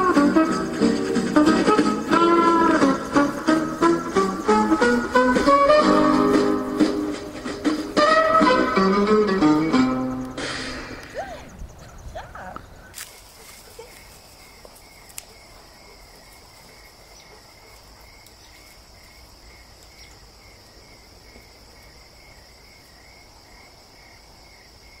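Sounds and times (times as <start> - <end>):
cricket-like chirping: 0.0 - 7.6, 8.3 - 25.0
insects buzzing: 0.0 - 25.0.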